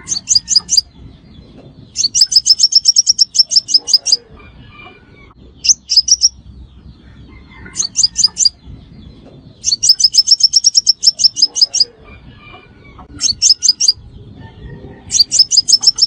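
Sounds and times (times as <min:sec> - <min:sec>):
bird sharp high chirps: 0:00.0 - 0:06.4, 0:07.5 - 0:12.2, 0:12.9 - 0:14.1, 0:15.1 - 0:16.0.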